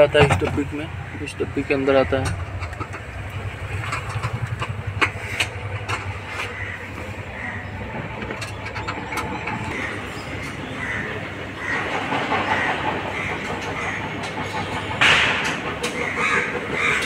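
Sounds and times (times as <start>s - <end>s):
sharp clicks and knocks: 0.0s - 0.9s, 2.0s - 7.1s, 7.8s - 10.6s, 11.7s - 17.0s
engine idling: 0.0s - 17.0s.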